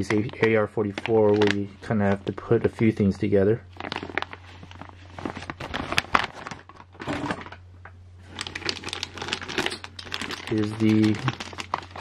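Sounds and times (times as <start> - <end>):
plastic bags crinkling: 0.0 - 3.1, 3.7 - 7.6, 8.2 - 12.0.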